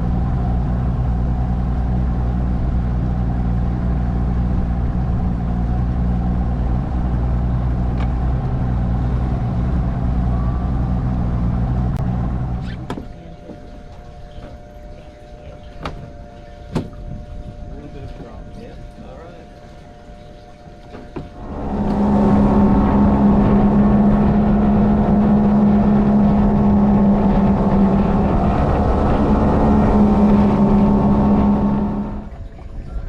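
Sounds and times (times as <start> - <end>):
engine humming: 0.0 - 33.0
quieter steady hum: 0.0 - 33.0.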